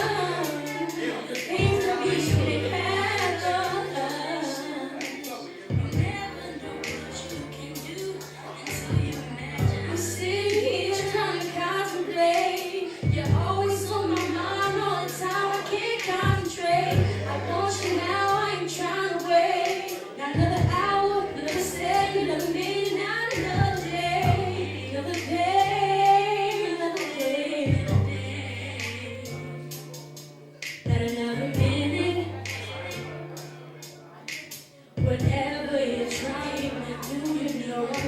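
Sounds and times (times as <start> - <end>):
backing track with beat and bass: 0.0 - 38.0
person singing: 0.0 - 38.0.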